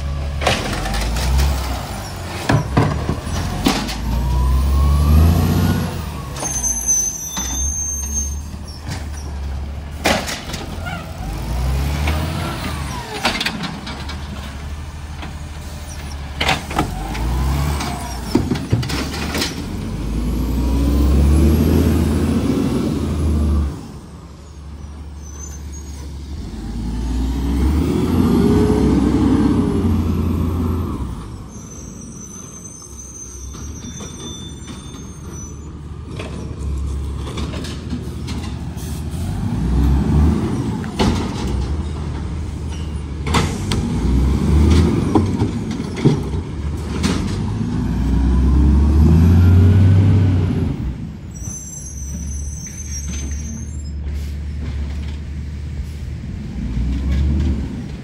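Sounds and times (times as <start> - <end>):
diesel truck engine revving: 0.0 - 24.3, 24.9 - 33.1, 35.7 - 51.4, 54.1 - 58.0.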